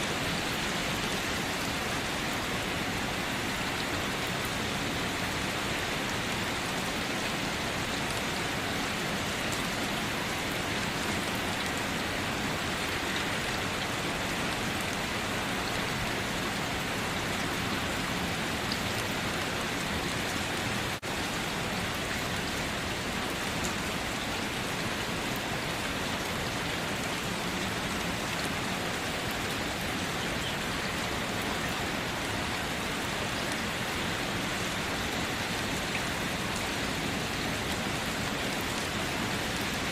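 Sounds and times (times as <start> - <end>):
steady rainfall hissing: 0.0 - 39.9.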